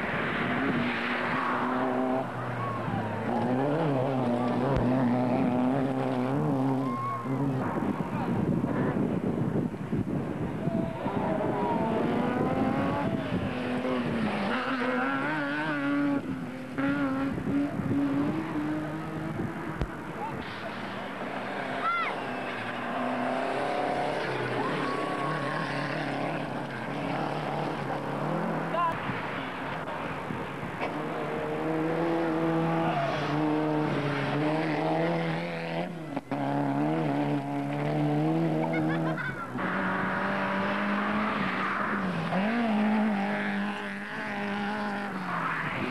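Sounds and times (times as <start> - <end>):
gravel and tyre noise: 0.0 - 45.9
rally car engine revving: 0.0 - 45.9.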